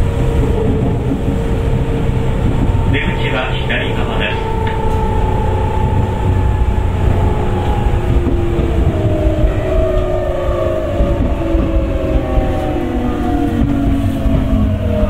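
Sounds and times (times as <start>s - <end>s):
electric train motors whining: 0.0s - 15.0s
running gear rumble: 0.0s - 15.0s.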